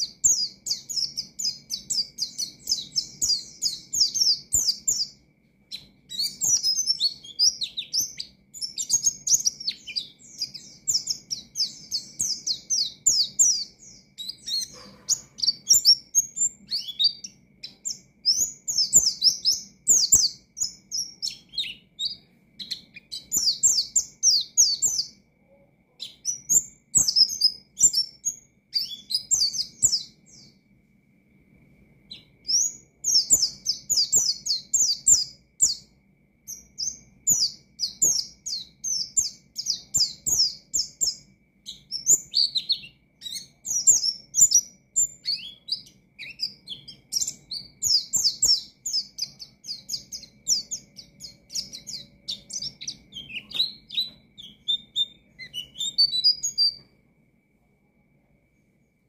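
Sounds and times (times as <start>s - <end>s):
bird singing chattering song: 0.0s - 30.6s, 32.0s - 57.0s
faint steady high tone: 0.0s - 59.0s.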